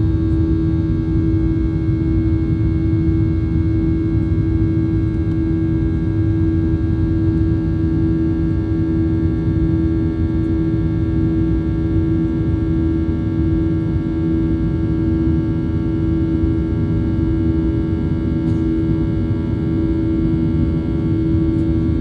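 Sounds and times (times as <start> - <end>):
jet engines rumbling in cabin: 0.0 - 22.0.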